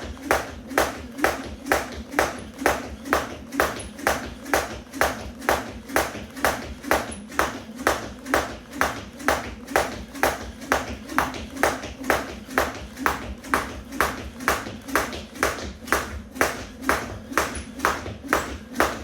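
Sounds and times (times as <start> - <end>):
jump rope slapping the floor: 0.0 - 19.0.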